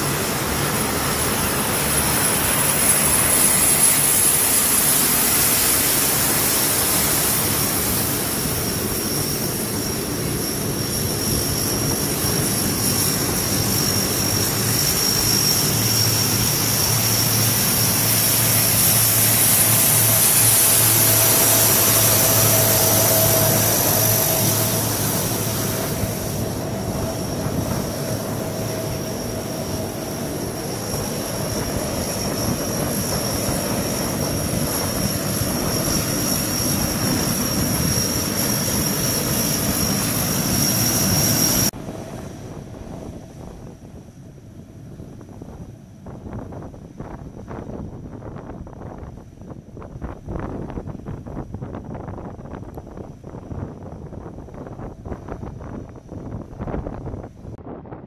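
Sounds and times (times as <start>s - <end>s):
propeller drone: 0.0s - 57.7s
high-pitched turbine whine: 0.0s - 58.0s.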